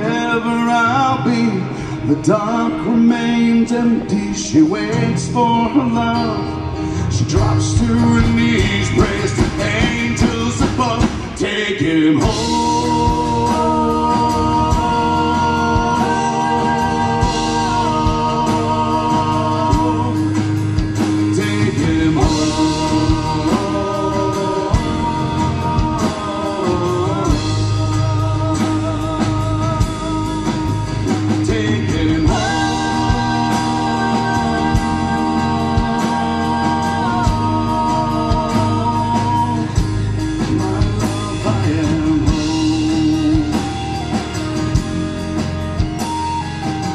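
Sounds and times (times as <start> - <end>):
live folk-rock band: 0.0 - 46.9
wordless held singing: 0.0 - 46.9.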